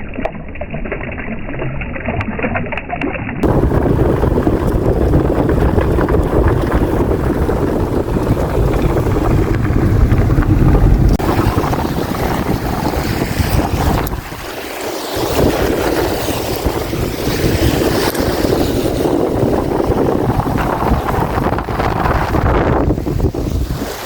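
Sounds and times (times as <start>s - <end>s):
strong wind buffeting microphone: 3.4s - 24.0s
waves washing on shore: 3.4s - 24.0s.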